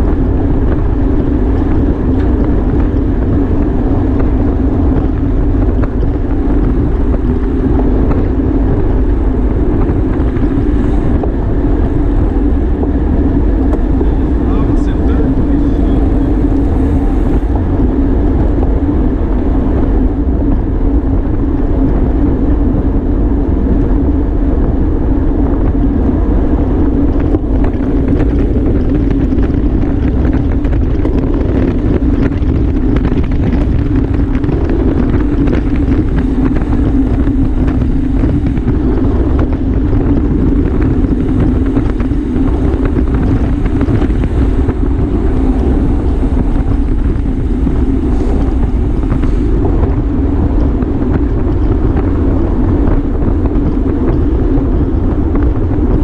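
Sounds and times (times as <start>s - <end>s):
low hum: 0.0s - 56.0s
wind rushing over microphone: 0.0s - 56.0s.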